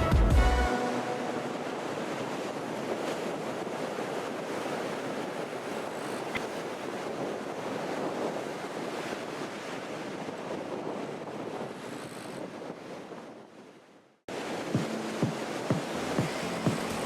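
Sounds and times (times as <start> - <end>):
ocean surf washing ashore: 0.6 - 17.0
wind buffeting microphone: 0.8 - 17.0.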